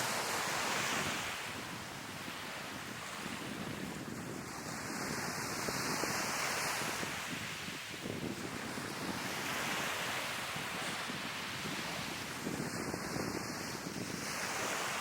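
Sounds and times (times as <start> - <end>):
sea waves breaking on shore: 0.0 - 15.0
wind buffeting the microphone: 0.0 - 15.0.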